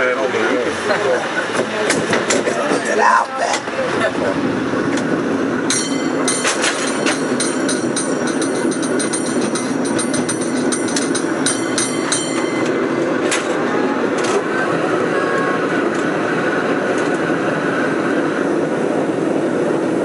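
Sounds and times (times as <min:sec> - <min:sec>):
cable car rumbling on rails: 0:00.0 - 0:20.0
rail clicks: 0:01.3 - 0:20.0.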